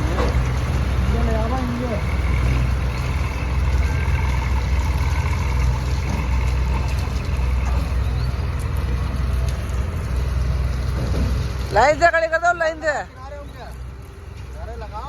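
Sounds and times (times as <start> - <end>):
diesel engine low drone: 0.0 - 15.0.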